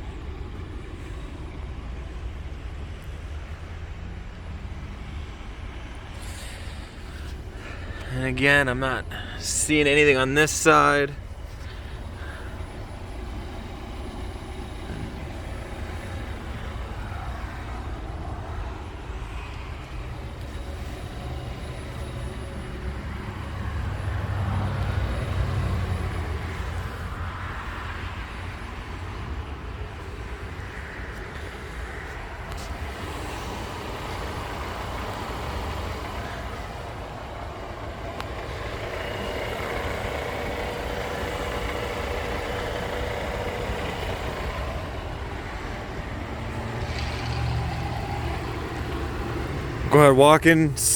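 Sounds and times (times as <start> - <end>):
motor vehicle rumble: 0.0 - 50.9
outdoor background noise: 0.0 - 50.9.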